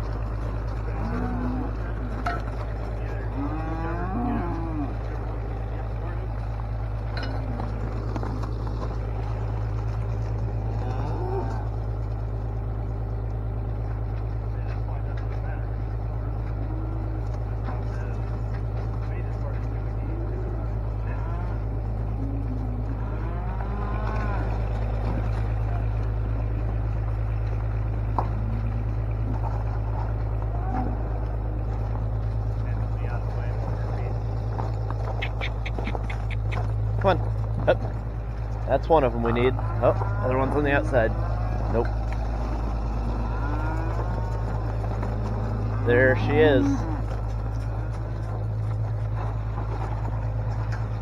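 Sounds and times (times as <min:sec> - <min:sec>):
cattle lowing: 0:00.0 - 0:51.0
engine idling: 0:00.0 - 0:51.0.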